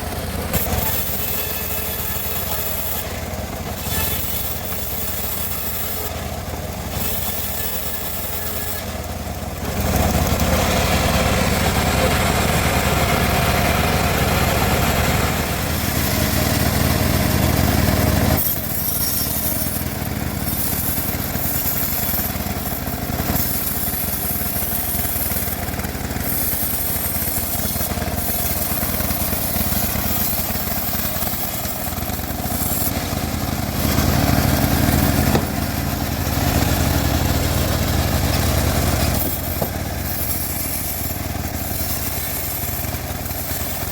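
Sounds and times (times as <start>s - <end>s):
bandsaw sawing a log: 0.0s - 43.9s.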